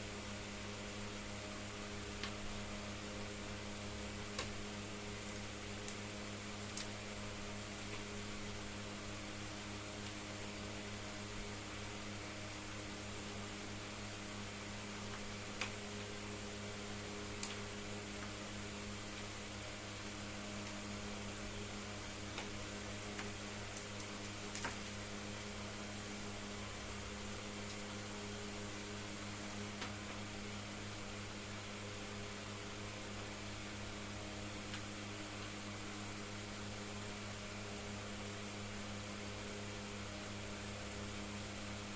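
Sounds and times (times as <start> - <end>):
constant hiss: 0.0 - 41.9
electrical hum: 0.0 - 41.9.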